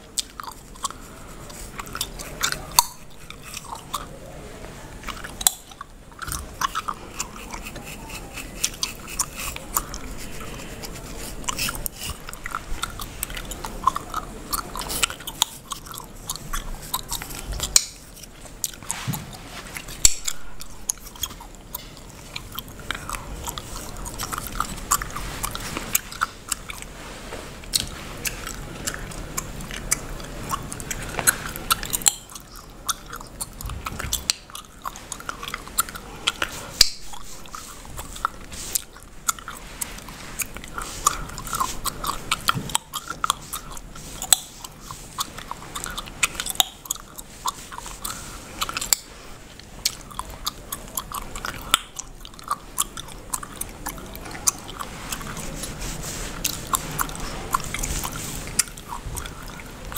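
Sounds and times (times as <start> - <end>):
wet gum chewing: 0.0 - 59.9.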